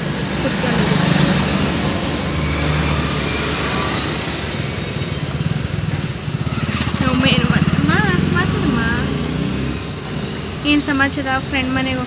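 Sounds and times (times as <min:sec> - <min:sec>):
fast engine putter: 0:00.0 - 0:11.2
low vehicle engine hum: 0:00.0 - 0:12.0
road traffic noise: 0:00.0 - 0:12.0.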